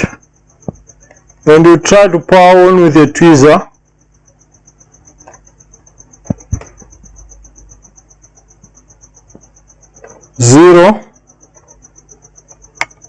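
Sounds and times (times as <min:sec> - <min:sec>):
high rapidly pulsing tone: 0:00.0 - 0:13.0.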